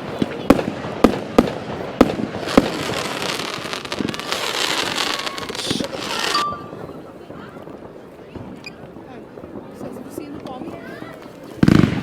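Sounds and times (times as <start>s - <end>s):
firework bangs: 0.0s - 12.0s
firework crackling: 0.0s - 12.0s.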